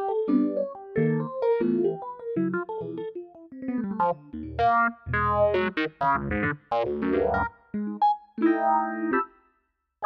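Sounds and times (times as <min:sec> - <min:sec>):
electric piano music: 0:00.0 - 0:09.4.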